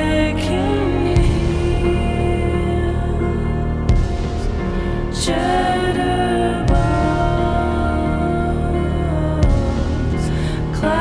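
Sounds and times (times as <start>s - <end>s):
slow held-tone background music: 0.0s - 11.0s.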